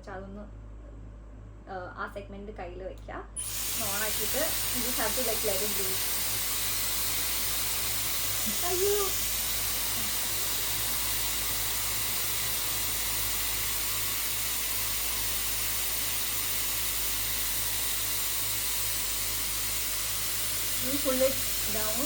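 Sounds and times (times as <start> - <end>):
hair styler blowing air: 3.4 - 22.0.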